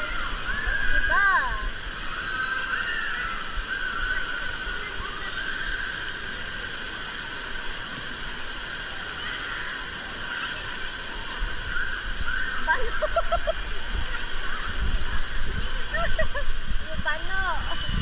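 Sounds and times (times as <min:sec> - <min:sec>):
running and lapping pool water: 0:00.0 - 0:18.0.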